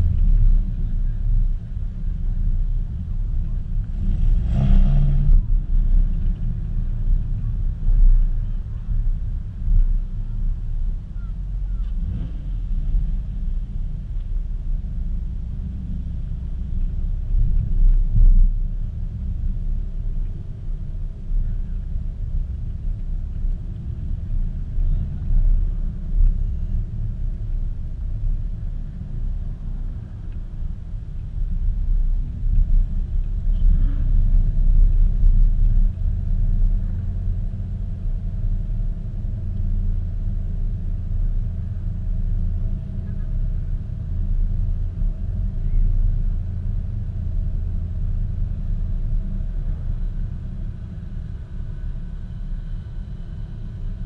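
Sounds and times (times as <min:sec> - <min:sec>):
car exhaust low rumble: 0:00.0 - 0:54.0.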